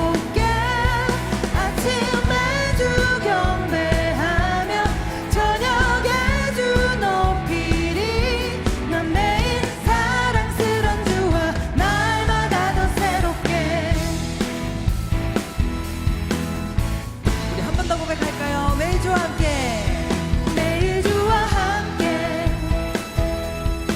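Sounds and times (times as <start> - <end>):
lead singer singing: 0.0 - 14.6, 17.6 - 23.3
worship song with band: 0.0 - 23.9.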